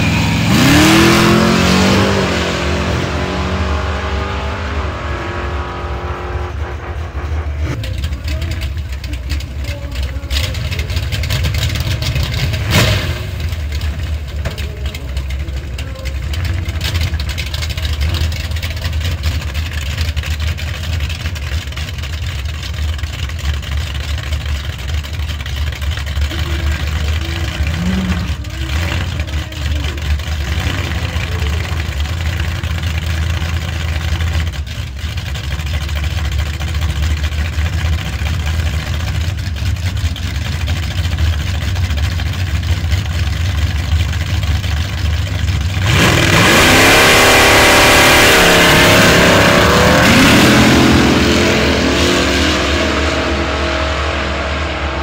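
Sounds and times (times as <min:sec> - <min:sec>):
drag racing engines rumbling: 0:00.0 - 0:55.0.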